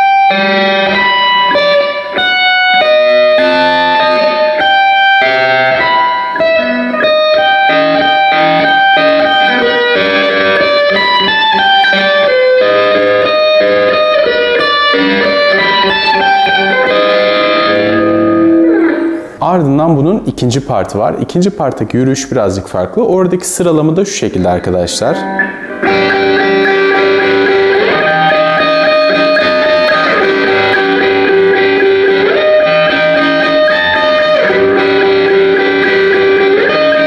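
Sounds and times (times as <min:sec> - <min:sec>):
electric guitar lead: 0:00.0 - 0:21.7, 0:23.3 - 0:37.0.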